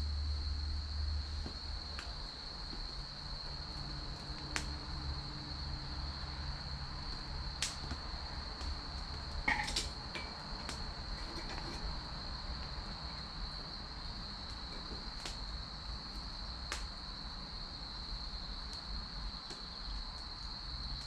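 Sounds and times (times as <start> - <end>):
crickets trilling: 0.0 - 21.0
wood fire crackling and popping: 0.8 - 21.0.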